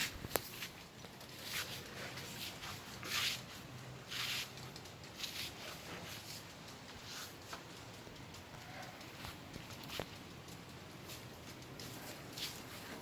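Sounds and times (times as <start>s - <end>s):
soft hissing bursts: 0.0s - 13.0s.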